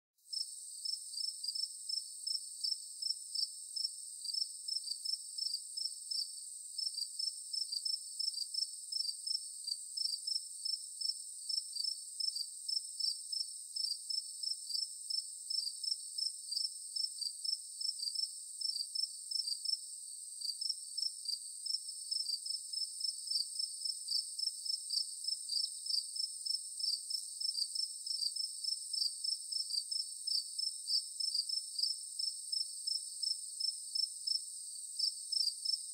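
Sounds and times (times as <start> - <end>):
insects droning and chirping: 0.3 - 35.9.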